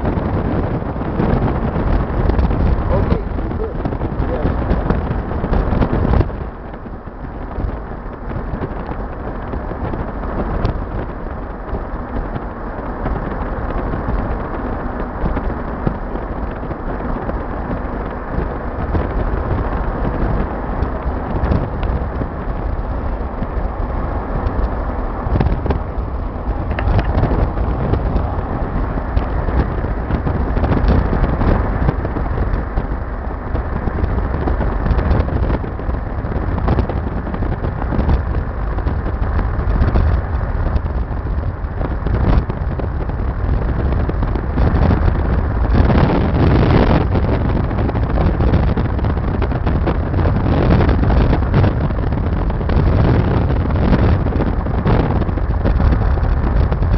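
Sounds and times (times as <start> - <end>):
car road and engine noise: 0.0 - 56.9
wind buffeting microphone: 0.0 - 56.9.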